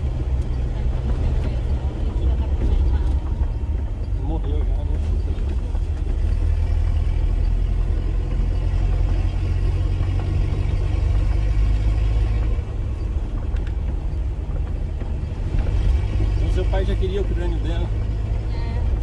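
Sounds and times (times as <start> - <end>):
pickup engine rumbling: 0.0 - 19.0
tyre noise on dirt road: 0.0 - 19.0.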